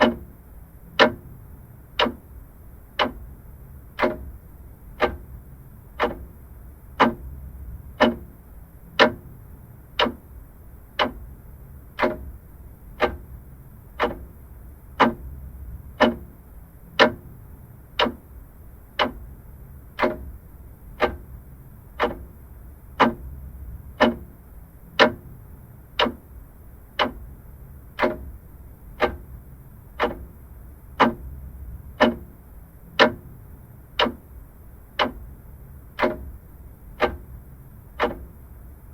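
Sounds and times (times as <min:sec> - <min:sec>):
clock ticking: 0:00.0 - 0:09.4, 0:10.0 - 0:17.4, 0:18.0 - 0:38.7.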